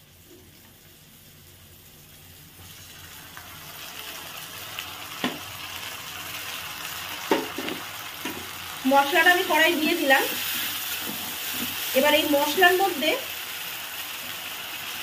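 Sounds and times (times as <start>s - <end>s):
spice paste sizzling in oil: 0.0s - 15.0s.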